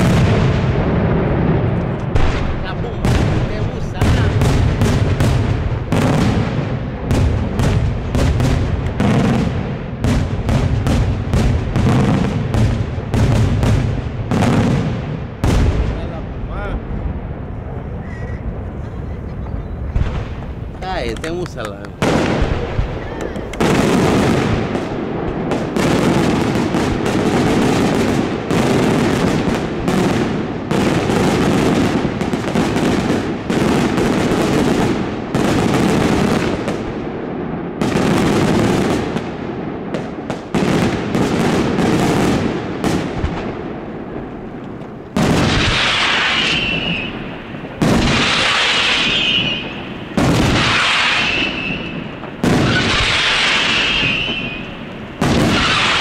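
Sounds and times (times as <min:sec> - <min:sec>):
fireworks barrage of bangs: 0:00.0 - 0:56.0
heavy firework booms: 0:00.0 - 0:56.0.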